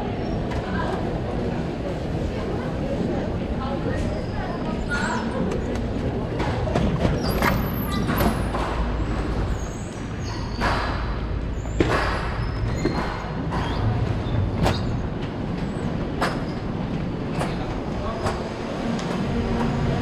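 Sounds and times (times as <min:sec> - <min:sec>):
train rumbling on tracks: 0:00.0 - 0:20.0.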